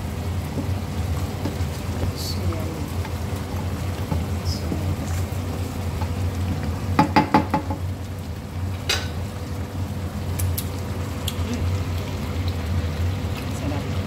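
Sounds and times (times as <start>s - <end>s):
curry simmering and sizzling in a pan: 0.0s - 14.0s.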